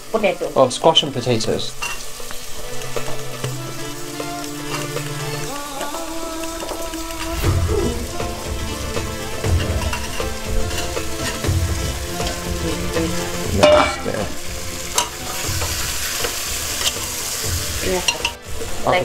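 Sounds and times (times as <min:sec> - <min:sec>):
vegetables sizzling in hot oil: 0:00.0 - 0:19.0
spoon scraping against pan: 0:01.4 - 0:07.3, 0:08.1 - 0:18.9.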